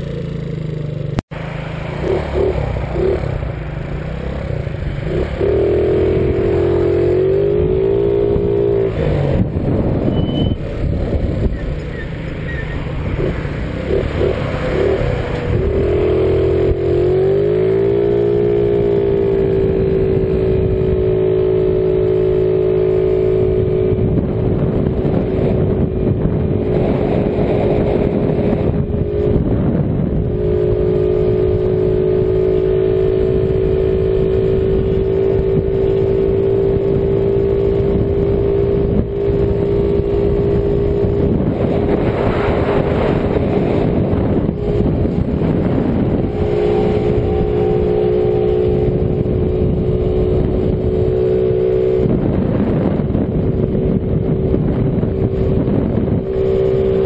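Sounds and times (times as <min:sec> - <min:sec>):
scooter engine running: 0:00.0 - 0:57.0
wind on microphone: 0:04.6 - 0:57.0.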